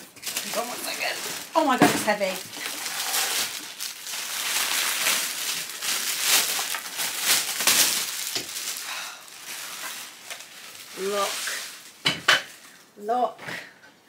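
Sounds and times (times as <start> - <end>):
plastic bag crinkling and rustling: 0.0 - 13.1.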